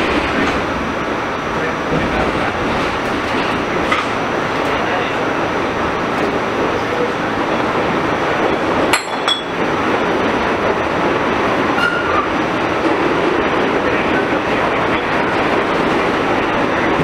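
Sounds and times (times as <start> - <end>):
subway car rumble and rattle: 0.0 - 17.0.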